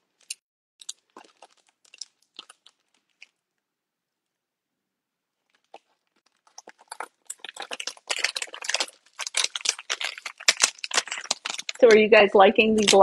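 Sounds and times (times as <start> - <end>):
plastic sleeve crinkling: 0.0 - 3.6, 5.3 - 13.0.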